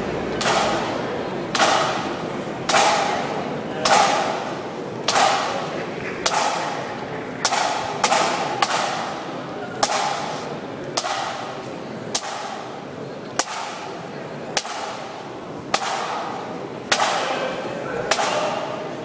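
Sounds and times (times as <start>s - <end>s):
low crowd murmur: 0.0s - 19.0s.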